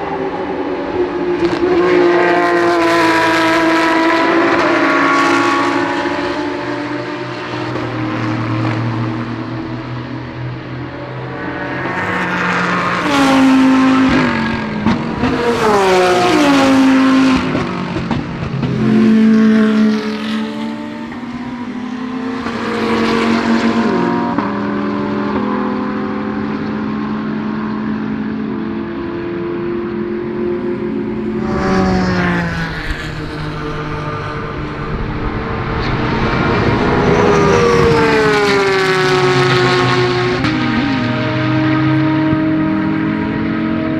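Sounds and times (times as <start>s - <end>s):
race cars passing: 0.0s - 43.9s.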